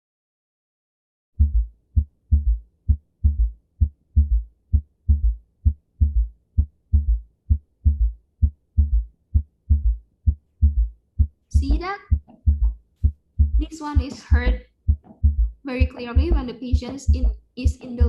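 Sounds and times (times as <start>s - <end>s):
heartbeat with gallop rhythm: 1.4s - 18.0s.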